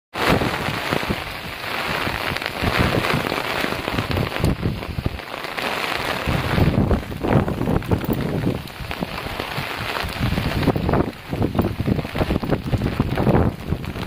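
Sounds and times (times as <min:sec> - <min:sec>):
heavy rain falling: 0:00.1 - 0:14.0
wind gusts on microphone: 0:00.2 - 0:14.0.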